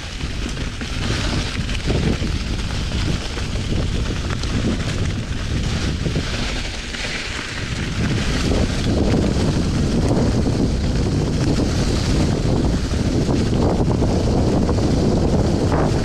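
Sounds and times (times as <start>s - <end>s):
bike tyres rolling on dirt trail: 0.0s - 16.0s
wind on microphone: 0.0s - 16.0s.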